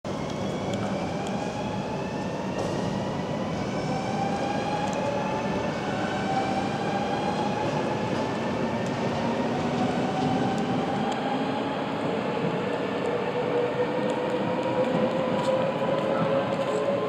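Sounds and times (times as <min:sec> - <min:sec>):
electric train rumbling: 0:00.1 - 0:17.0.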